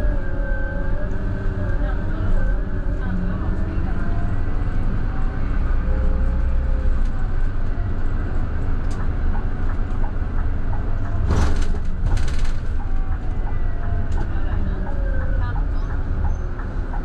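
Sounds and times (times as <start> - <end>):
diesel bus engine running: 0.0 - 17.0.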